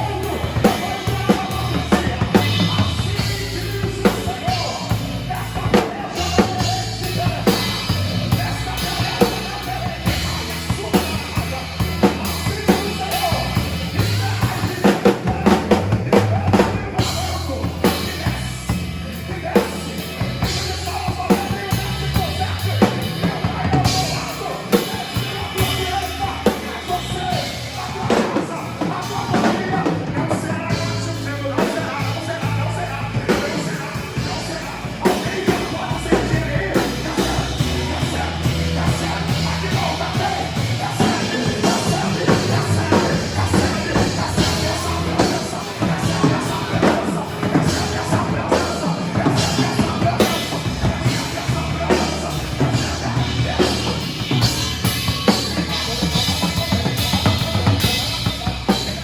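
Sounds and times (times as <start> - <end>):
drum kit beat: 0.0 - 59.0
person singing: 0.0 - 59.0.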